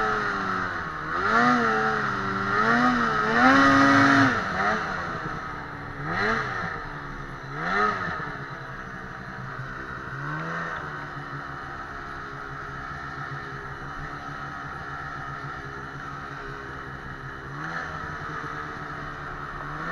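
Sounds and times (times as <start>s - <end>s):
snowmobile engine revving: 0.0s - 19.9s.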